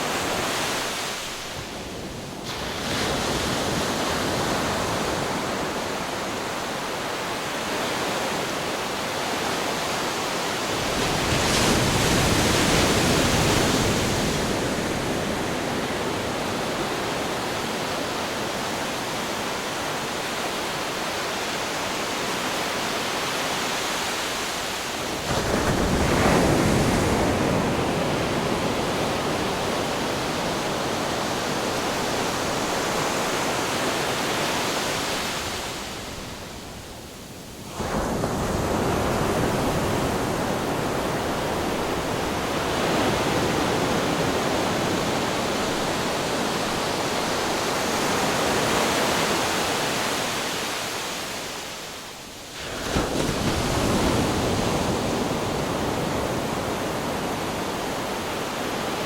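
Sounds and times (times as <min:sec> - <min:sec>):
big waves crashing on rocks: 0:00.0 - 0:59.0
ocean surf washing: 0:00.0 - 0:59.0.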